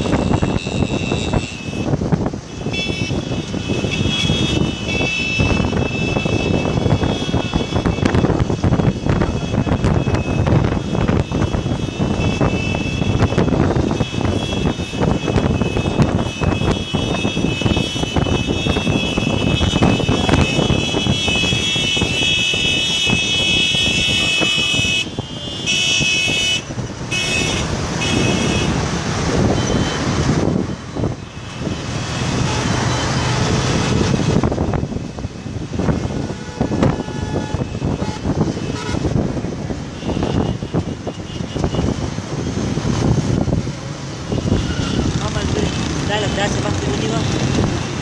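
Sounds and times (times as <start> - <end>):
road noise: 0.0 - 48.0
vehicle engines: 0.0 - 48.0.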